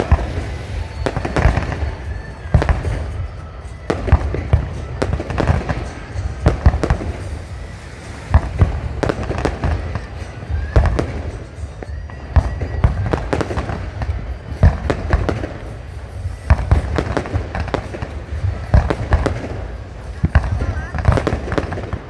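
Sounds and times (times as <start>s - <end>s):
fireworks bursting bangs: 0.0s - 22.0s.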